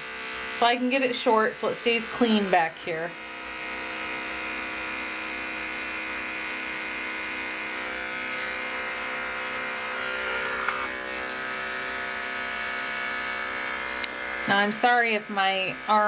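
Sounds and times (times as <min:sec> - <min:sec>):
electric clipper buzzing: 0:00.0 - 0:16.0.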